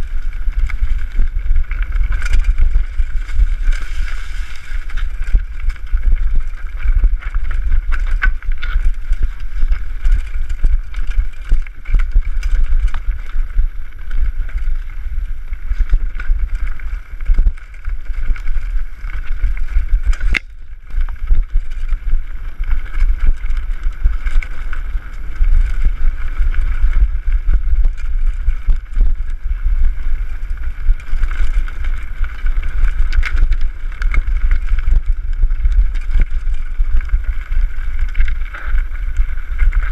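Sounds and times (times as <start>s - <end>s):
bike knocking and rattling: 0.0s - 39.9s
wind buffeting microphone: 0.0s - 39.9s.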